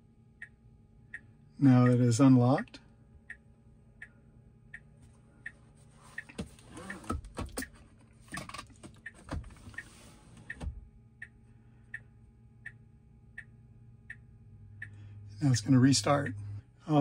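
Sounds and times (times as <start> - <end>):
turn signal ticking: 0.4 - 7.8, 8.7 - 17.0.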